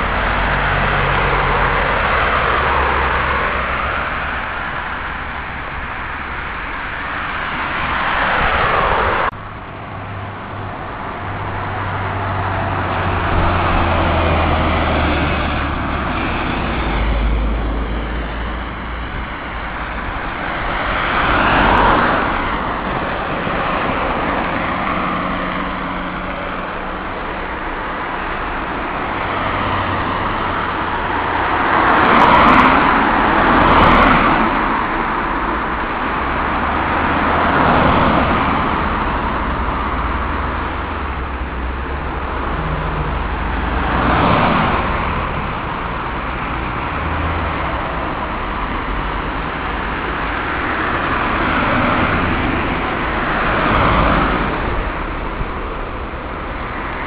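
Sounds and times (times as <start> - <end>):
cars passing: 0.0 - 57.0
continuous traffic rumble: 0.0 - 57.0.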